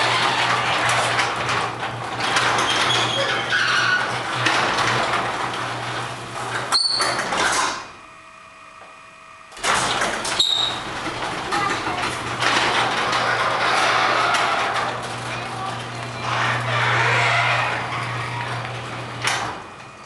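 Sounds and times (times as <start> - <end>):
garage door opener running: 0.0 - 20.0.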